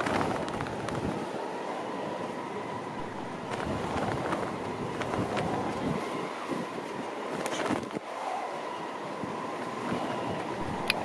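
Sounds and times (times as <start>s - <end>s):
gusty wind on microphone: 0.0s - 11.0s
steady high whine: 0.0s - 11.0s.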